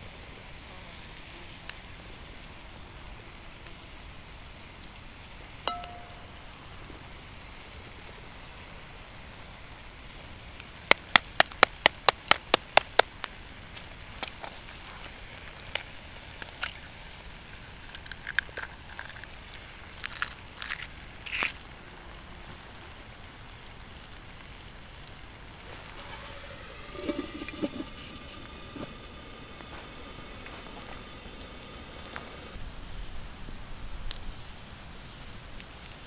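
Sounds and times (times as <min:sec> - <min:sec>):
food sizzling in a skillet: 0:00.0 - 0:10.9, 0:13.0 - 0:36.0.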